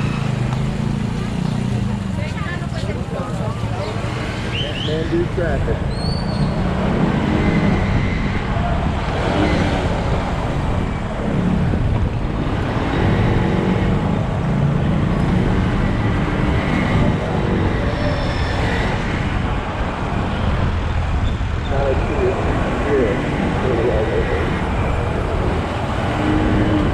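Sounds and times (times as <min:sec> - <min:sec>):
surrounding traffic noise: 0:00.0 - 0:26.9
wind rushing on microphone: 0:04.6 - 0:26.9.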